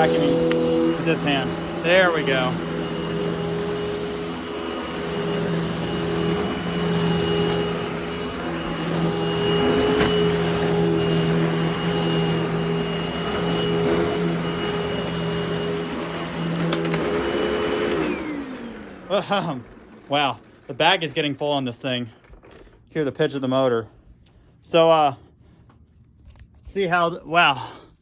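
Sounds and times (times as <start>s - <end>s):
vacuum cleaner motor humming: 0.0s - 22.8s.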